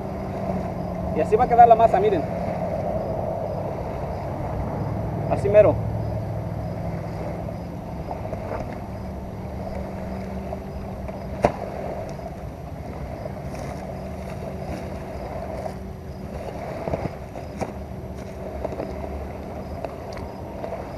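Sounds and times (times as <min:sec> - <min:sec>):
distant engine hum: 0:00.0 - 0:20.9
outdoor noise: 0:00.0 - 0:20.9.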